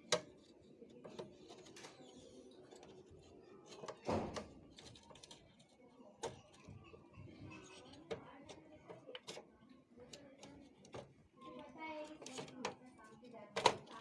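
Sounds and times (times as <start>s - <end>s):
plastic and metal parts clicking: 0.0s - 6.8s, 7.5s - 14.0s.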